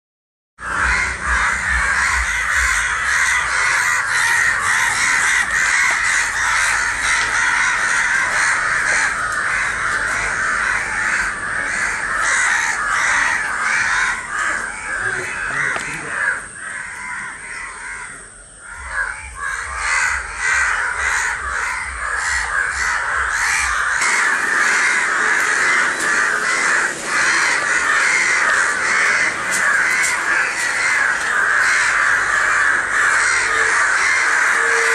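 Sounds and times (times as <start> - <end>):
crows cawing: 0.6 - 34.9.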